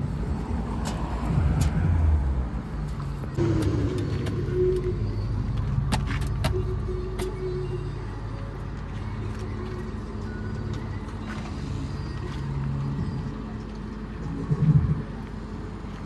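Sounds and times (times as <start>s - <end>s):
heavy diesel engine running: 0.0s - 14.4s.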